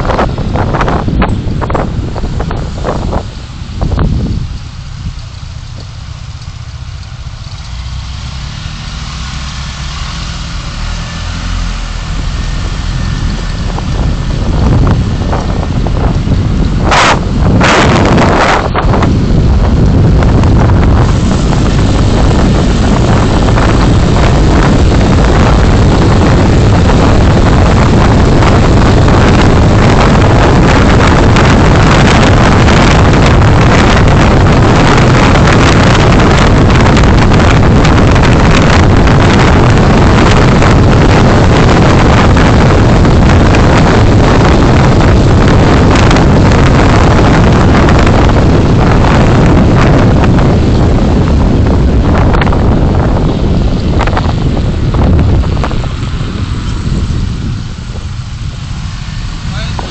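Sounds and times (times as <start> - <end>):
car wind and road noise: 0.0 - 59.9.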